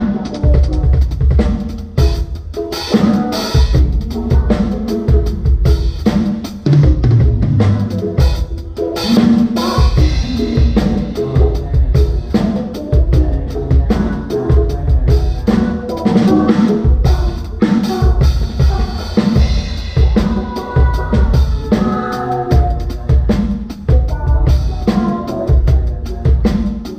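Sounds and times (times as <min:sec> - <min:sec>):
bass drum beats: 0:00.0 - 0:26.9
live band playing: 0:00.0 - 0:26.9.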